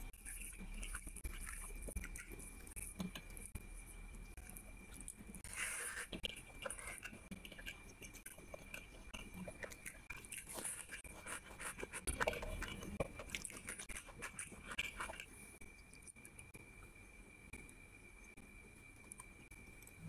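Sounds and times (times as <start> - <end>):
crunchy chewing: 0.0 - 16.6
faint high-pitched whine: 0.0 - 20.0.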